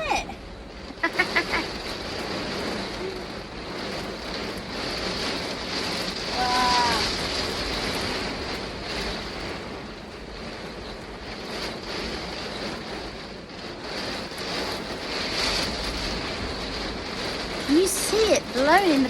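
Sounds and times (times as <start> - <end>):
heavy rain: 0.0 - 19.0
wind buffeting microphone: 0.0 - 19.0.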